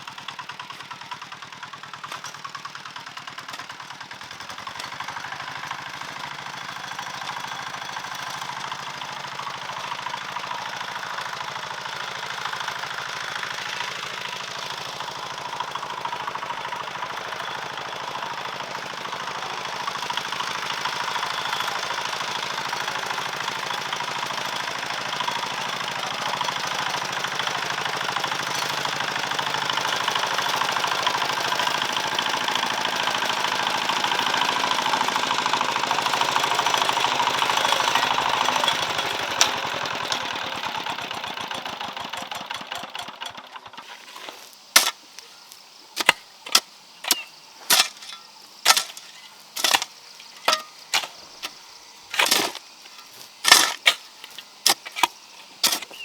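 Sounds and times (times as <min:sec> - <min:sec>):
small engine knocking: 0:00.0 - 0:45.0, 0:45.7 - 0:56.0.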